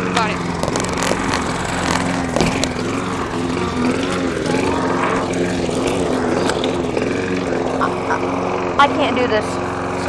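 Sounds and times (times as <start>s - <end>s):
lawn mower engine running: 0.0s - 10.0s.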